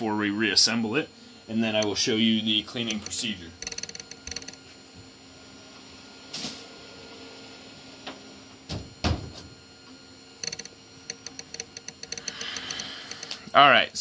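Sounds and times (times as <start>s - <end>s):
steady low hum: 0.0s - 6.3s, 7.4s - 14.0s.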